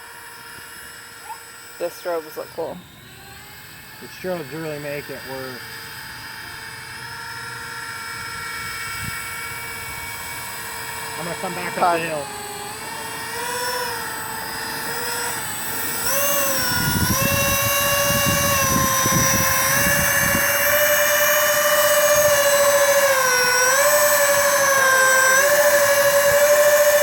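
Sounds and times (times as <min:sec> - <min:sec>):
electric ducted fans whining: 0:00.0 - 0:27.0.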